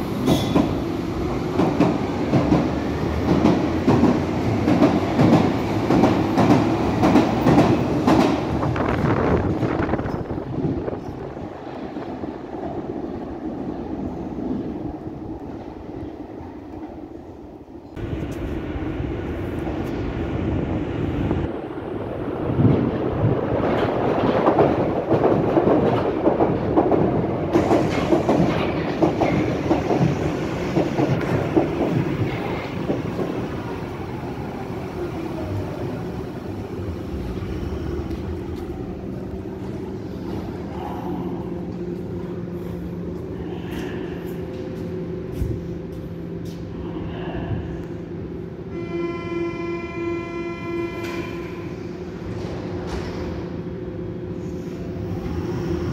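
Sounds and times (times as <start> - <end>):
train rumbling through tunnel: 0.0 - 55.9.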